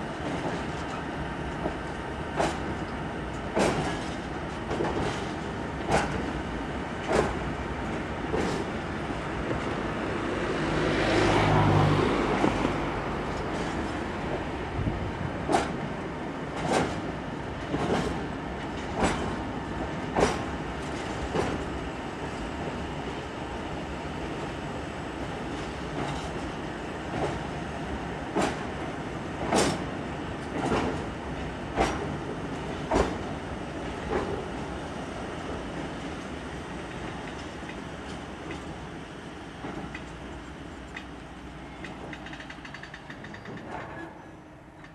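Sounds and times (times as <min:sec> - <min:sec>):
train rumble: 0:00.0 - 0:44.9
train wheels clacking on rail joints: 0:00.1 - 0:09.8, 0:12.3 - 0:23.2, 0:25.2 - 0:38.9, 0:39.5 - 0:44.9.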